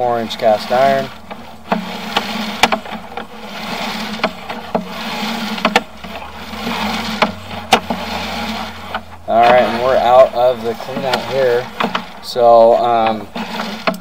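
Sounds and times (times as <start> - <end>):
low hum: 0.0 - 13.9
cable rubbing and scraping: 0.0 - 14.0
sharp clicks and knocks: 0.5 - 14.0.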